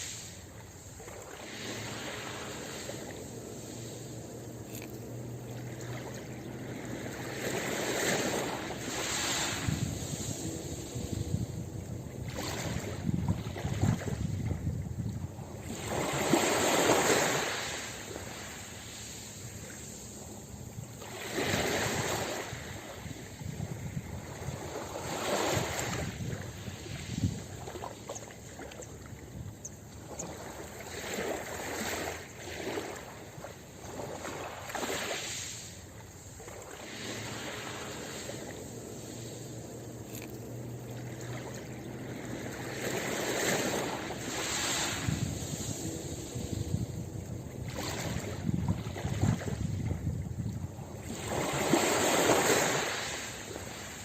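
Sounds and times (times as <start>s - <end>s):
ocean waves washing up beach: 0.0s - 54.0s.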